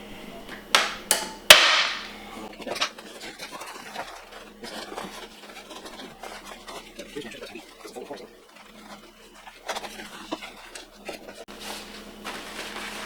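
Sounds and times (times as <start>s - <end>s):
pond liner rustling: 2.4s - 13.0s.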